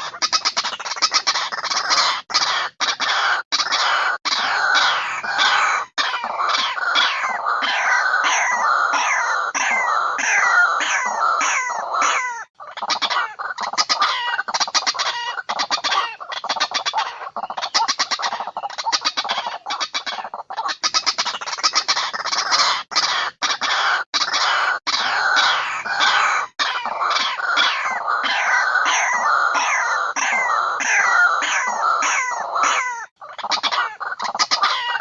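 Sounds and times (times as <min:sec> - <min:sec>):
waterhen calls: 0:00.0 - 0:35.0.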